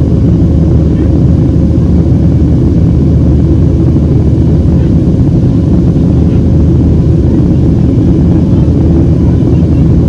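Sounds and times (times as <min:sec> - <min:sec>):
airflow over fuselage: 0:00.0 - 0:10.0
airplane cabin engine rumble: 0:00.0 - 0:10.0
faint steady hum: 0:00.0 - 0:10.0.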